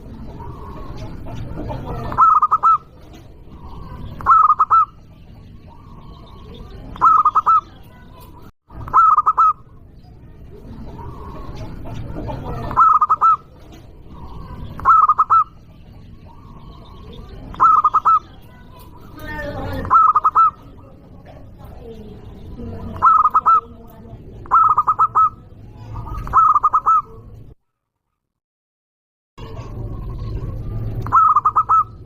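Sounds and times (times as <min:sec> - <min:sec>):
dove cooing: 0:00.0 - 0:08.1, 0:08.8 - 0:09.8, 0:10.5 - 0:27.4, 0:29.4 - 0:32.0.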